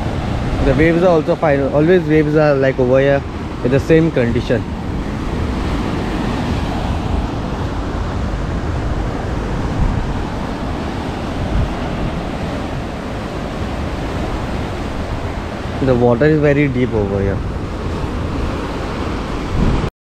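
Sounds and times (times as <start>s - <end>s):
waves breaking: 0.0s - 19.9s
wind buffeting the microphone: 0.0s - 19.9s.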